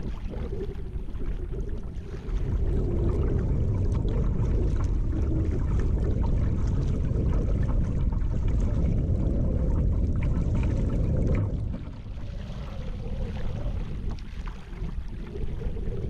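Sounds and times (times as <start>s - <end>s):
small water splashes: 0.0s - 16.0s
water rushing past a kayak hull: 0.0s - 16.0s.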